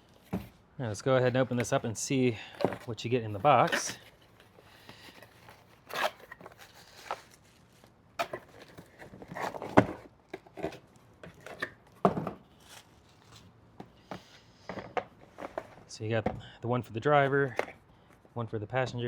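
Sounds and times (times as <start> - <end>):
box contents knocking and rustling: 0.0 - 0.6, 1.2 - 7.4, 8.2 - 16.4, 17.4 - 17.8.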